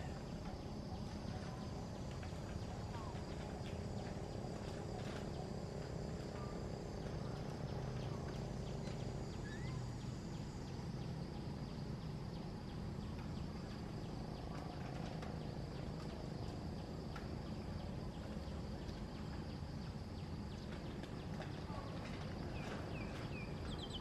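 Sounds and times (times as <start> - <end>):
faint high insect drone: 0.0 - 24.0
low continuous rumble: 0.0 - 24.0.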